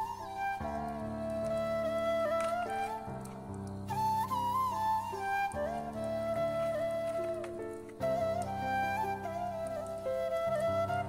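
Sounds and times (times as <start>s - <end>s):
slow sliding melody: 0.0s - 11.0s.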